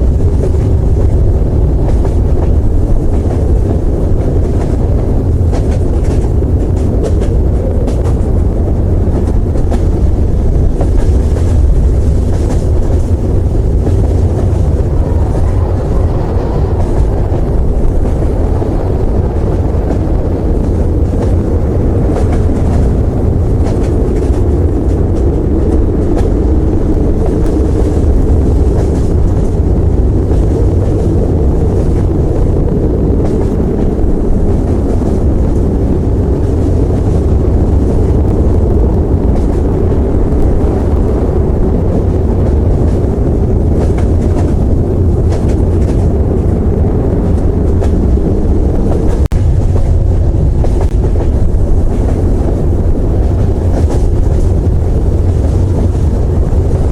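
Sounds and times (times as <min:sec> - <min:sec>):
train rumbling: 0:00.0 - 0:56.9.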